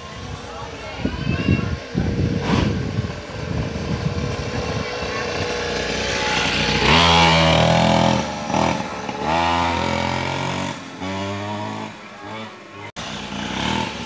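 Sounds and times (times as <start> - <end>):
dirt bike engine revving: 1.9 - 14.0.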